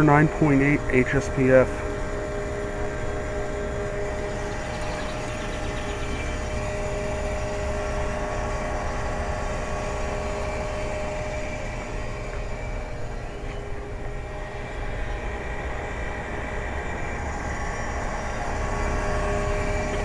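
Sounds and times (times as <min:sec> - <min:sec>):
compressor hum: 0:00.0 - 0:20.0
condenser fan rushing: 0:00.0 - 0:20.0.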